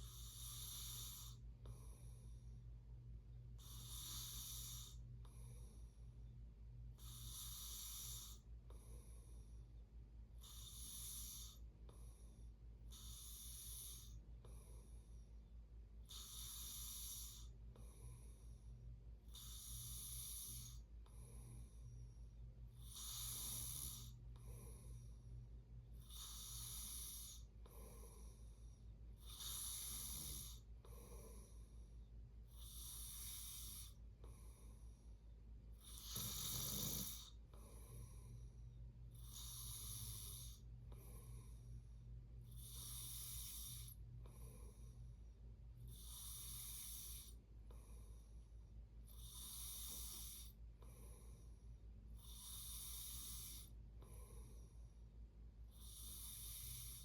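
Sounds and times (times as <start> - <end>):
person snoring softly: 0.0 - 2.7, 3.5 - 6.2, 6.9 - 9.7, 10.3 - 15.4, 16.0 - 45.2, 45.8 - 55.0, 55.6 - 57.0
steady low hum: 0.0 - 57.0.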